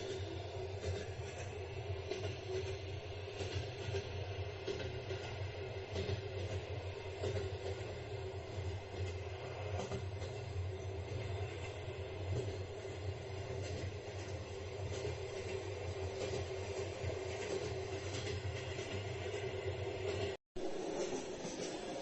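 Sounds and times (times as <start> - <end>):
constant hum: 0.0 - 22.0
train rumbling on track: 0.0 - 22.0
wheels clicking over rails: 0.0 - 22.0.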